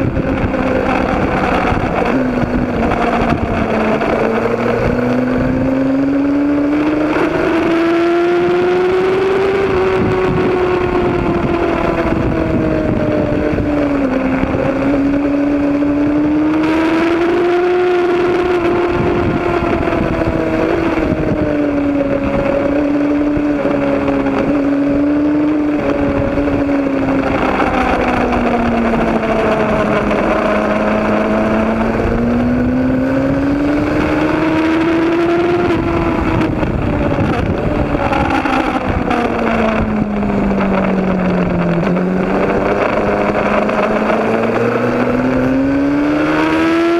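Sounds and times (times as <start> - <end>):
motorcycle engine at high revs: 0.0 - 46.9
wind and road noise: 0.0 - 46.9.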